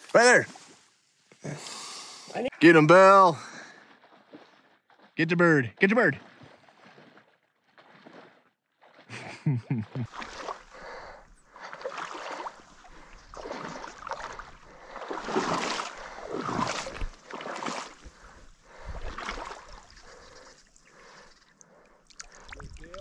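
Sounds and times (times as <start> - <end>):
water splashing and sloshing: 2.7 - 23.0.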